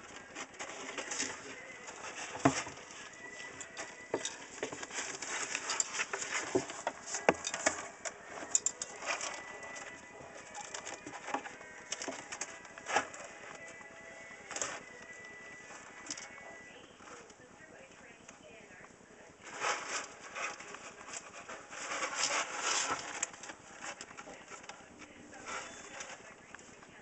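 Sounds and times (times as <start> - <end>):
kittens scrabbling in cat litter: 0.0 - 17.5, 19.1 - 27.0.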